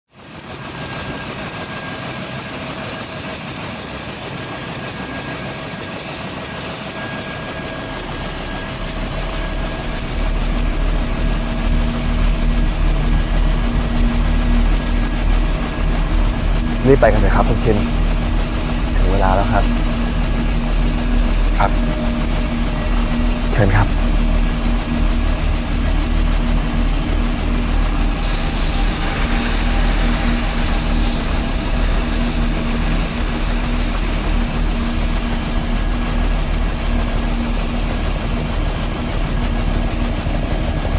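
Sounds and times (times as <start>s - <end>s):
helicopter rotor and turbine whine: 0.1s - 40.9s.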